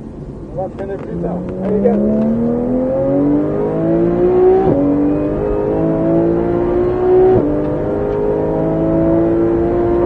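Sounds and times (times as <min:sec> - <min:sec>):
car engine at full throttle: 0:00.0 - 0:10.0
gear changes: 0:00.6 - 0:10.0.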